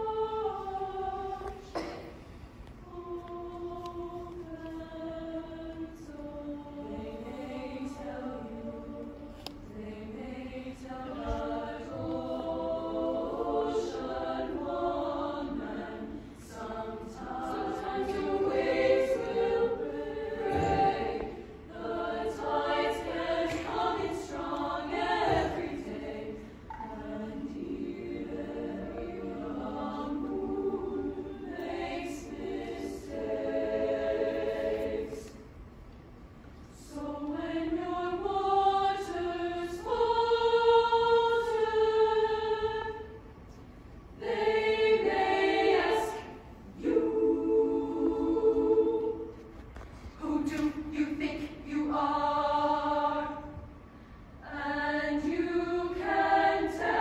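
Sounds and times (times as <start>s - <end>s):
women's choir singing: 0.0s - 35.7s, 36.7s - 57.0s.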